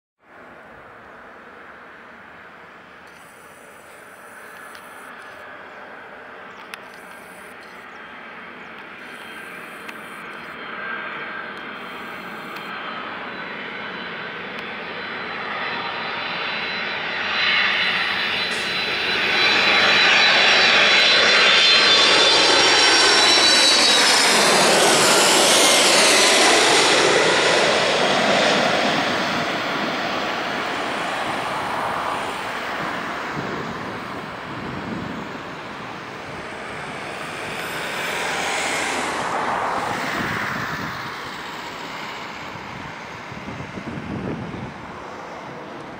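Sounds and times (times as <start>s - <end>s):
jet airliner engines whining: 0.3s - 45.9s.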